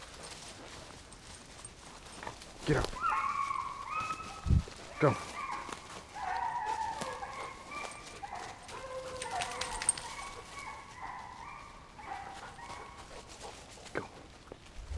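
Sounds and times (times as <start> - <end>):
hounds baying: 0.0 - 14.2.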